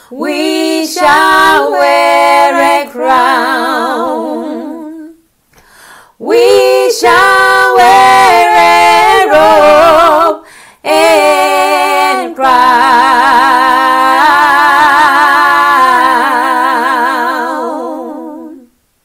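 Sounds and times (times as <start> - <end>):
woman singing unaccompanied: 0.0 - 5.2, 6.2 - 18.7.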